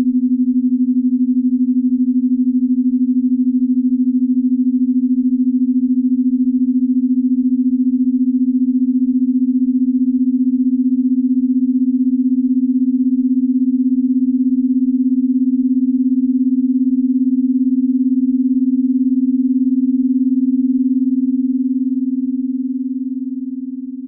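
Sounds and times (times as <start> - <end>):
low wavering electronic tone: 0.0 - 24.0.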